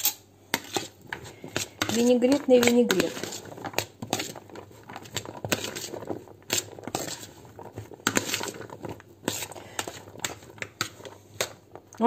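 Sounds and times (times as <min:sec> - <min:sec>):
spoon stirring vegetables in bowl: 0:00.0 - 0:12.0.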